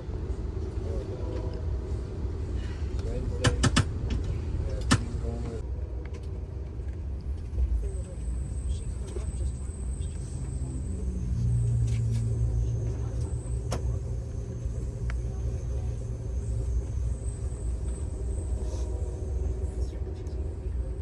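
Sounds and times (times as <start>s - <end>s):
low hum: 0.0s - 21.0s
vehicle engine rumbling: 0.0s - 21.0s.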